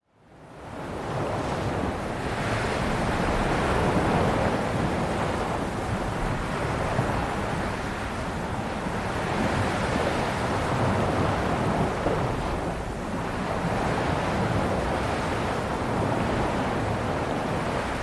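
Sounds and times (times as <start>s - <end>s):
ocean waves washing in: 0.3s - 18.0s.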